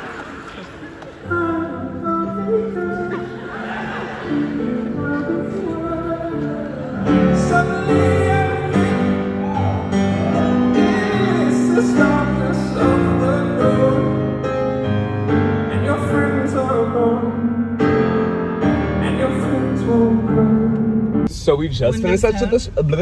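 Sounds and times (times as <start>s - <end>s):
piano chords: 0.0s - 21.4s
man singing: 1.2s - 22.6s.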